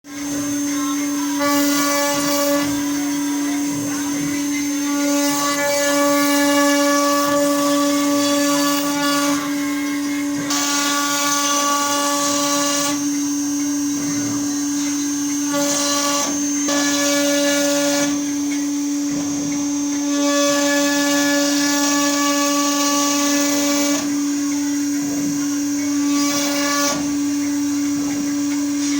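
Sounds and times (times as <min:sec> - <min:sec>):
router bit cutting wood: 0:00.0 - 0:28.9
router spindle whine: 0:00.0 - 0:28.9.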